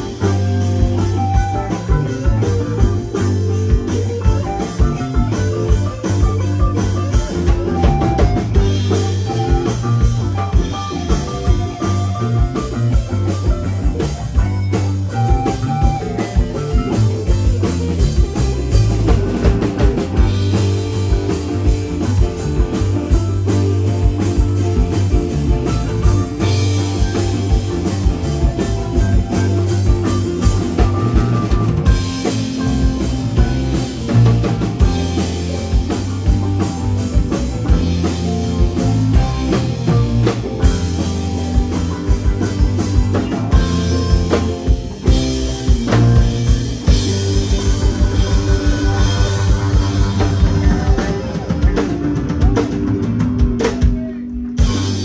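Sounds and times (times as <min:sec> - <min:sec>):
bass guitar: 0:00.0 - 0:55.0
drum kit beat: 0:00.0 - 0:55.0
electric guitars: 0:00.0 - 0:55.0
keyboards: 0:00.0 - 0:55.0.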